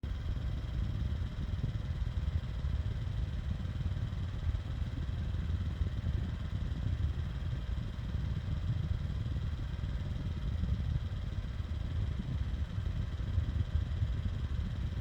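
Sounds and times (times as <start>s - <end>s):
desk fan blowing air: 0.0s - 15.0s.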